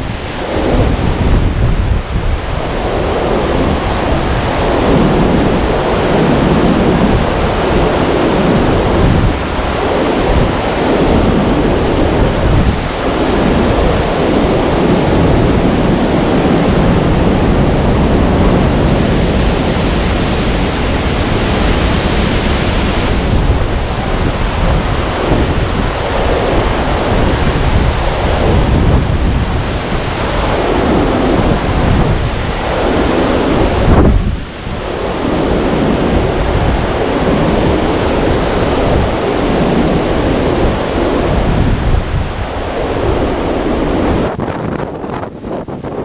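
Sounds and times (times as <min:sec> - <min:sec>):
wind gusts on microphone: 0:00.0 - 0:46.0.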